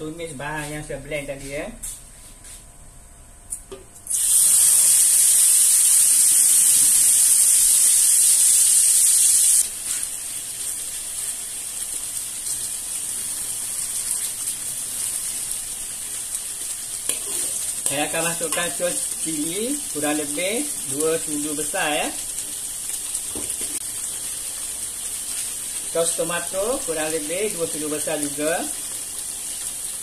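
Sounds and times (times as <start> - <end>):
paste sizzling in hot oil: 4.1 - 30.0.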